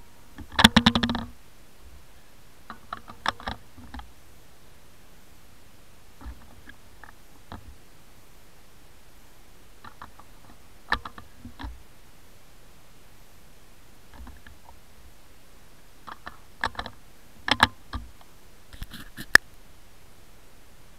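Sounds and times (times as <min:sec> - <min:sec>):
faint steady hiss: 0:00.0 - 0:20.9.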